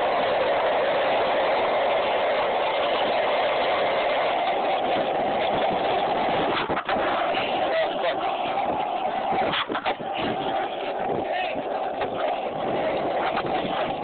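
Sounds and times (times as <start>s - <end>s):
skateboard wheels rolling on asphalt: 0.0s - 14.0s.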